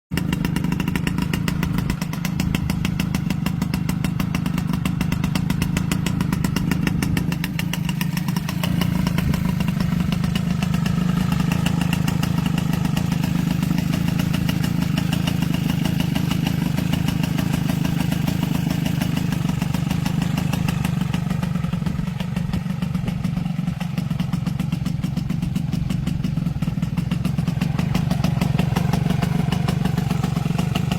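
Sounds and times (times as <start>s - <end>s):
scooter engine idling: 0.1s - 30.9s.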